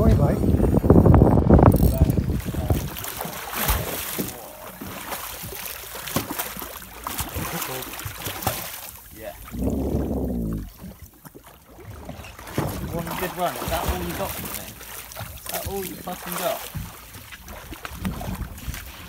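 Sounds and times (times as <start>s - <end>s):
water splashing and slapping: 0.0s - 19.0s.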